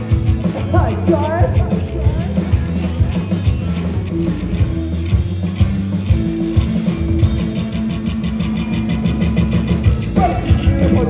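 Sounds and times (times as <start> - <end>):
bass notes: 0.0 - 11.0
drum beat: 0.0 - 11.0
guitar: 0.0 - 11.0.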